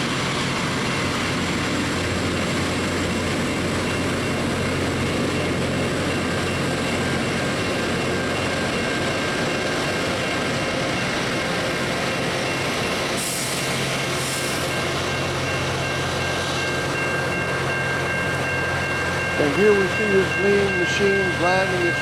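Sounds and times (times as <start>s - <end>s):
rail grinder grinding: 0.0s - 22.0s.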